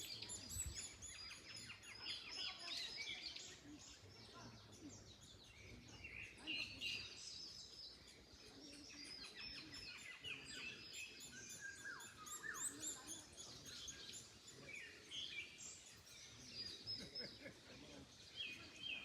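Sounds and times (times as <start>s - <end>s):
small birds chirping and singing: 0.0s - 19.0s.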